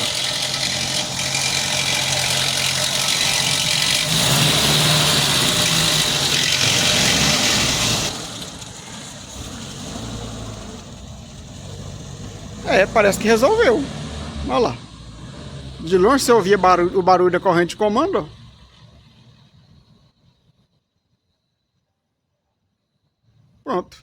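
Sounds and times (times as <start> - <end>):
car engine running: 0.0 - 20.2.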